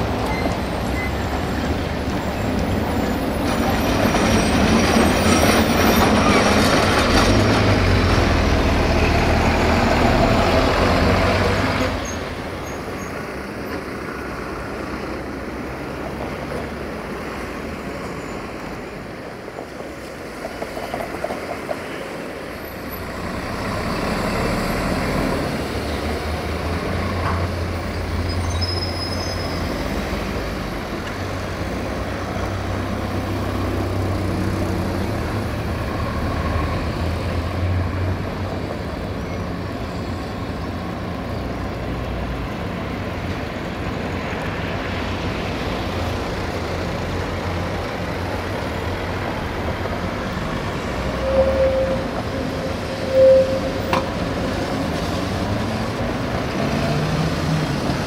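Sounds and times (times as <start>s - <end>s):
street noise: 0.0s - 58.0s
tram rumbling on track: 0.0s - 58.0s.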